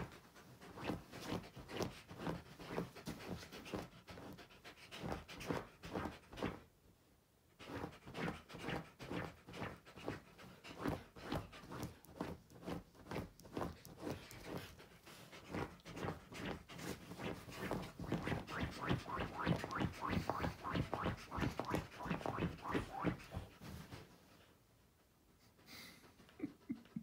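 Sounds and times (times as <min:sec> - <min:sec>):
dog scratching a blanket: 0:00.0 - 0:06.6, 0:07.6 - 0:23.8.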